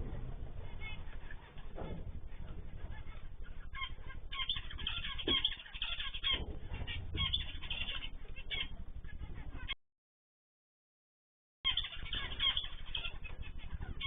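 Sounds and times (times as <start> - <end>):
cage birds chirping: 0.0 - 9.8, 11.7 - 14.0.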